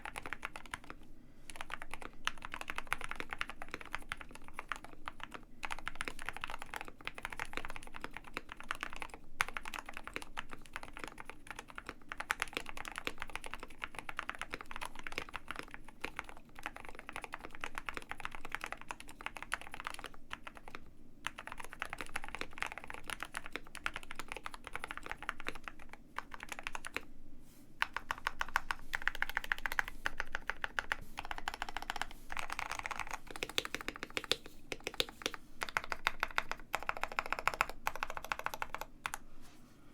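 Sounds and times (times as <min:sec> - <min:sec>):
mechanical keyboard typing: 0:00.0 - 0:27.0, 0:27.8 - 0:39.2.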